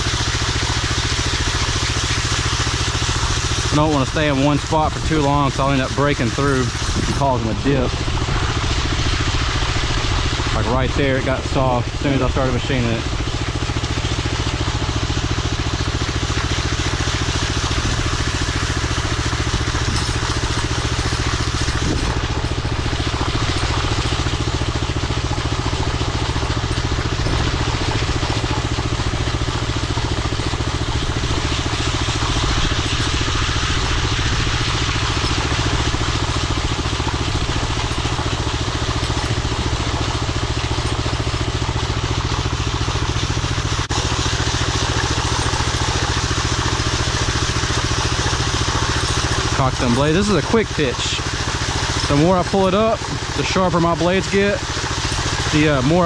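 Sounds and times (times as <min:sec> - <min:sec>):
power trowel engine running: 0:00.0 - 0:56.0.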